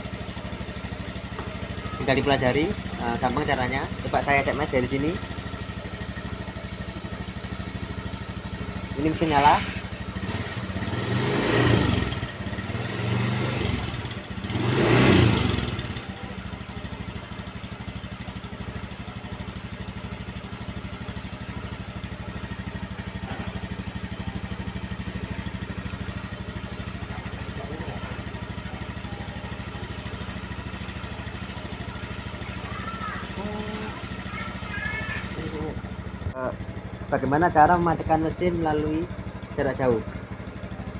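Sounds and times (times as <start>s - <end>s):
scooter engine revving and idling: 0.0s - 40.9s.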